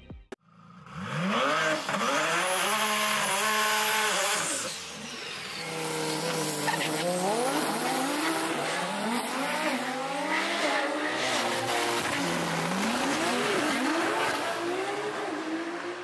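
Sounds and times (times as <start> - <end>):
car engine accelerating hard: 0.5 - 16.0.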